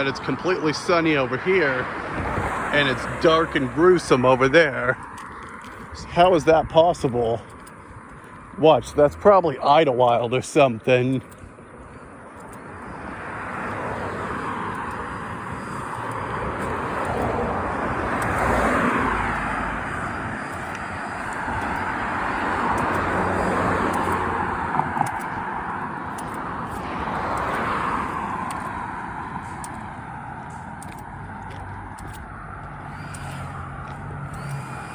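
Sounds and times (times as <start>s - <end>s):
cars passing on road: 0.0s - 34.9s.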